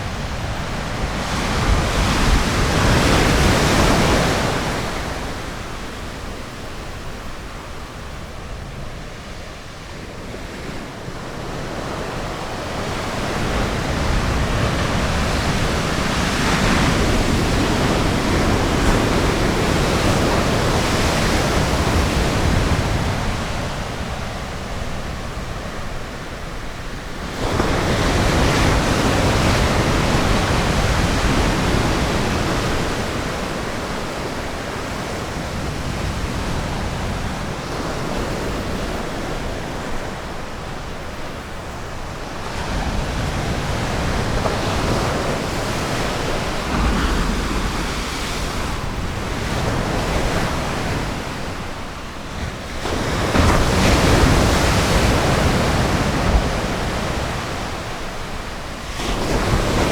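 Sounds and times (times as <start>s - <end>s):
wind on microphone: 0.0s - 59.9s
ocean waves breaking: 9.9s - 59.9s.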